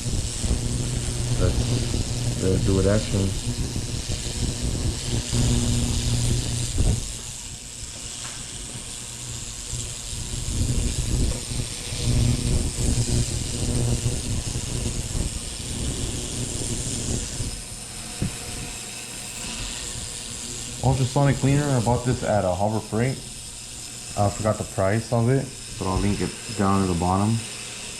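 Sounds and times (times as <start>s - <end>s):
ultrasonic cleaner buzzing hum: 0.0s - 27.9s.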